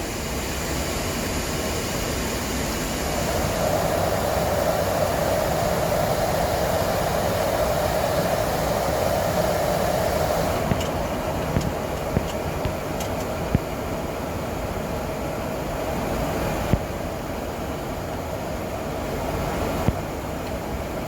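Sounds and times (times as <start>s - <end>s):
cockpit airflow and engine noise: 0.0s - 21.0s.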